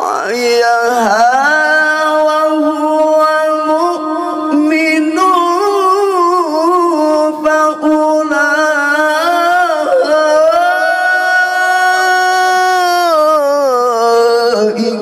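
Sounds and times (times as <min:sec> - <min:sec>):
man reciting melodically into microphone: 0:00.0 - 0:15.0.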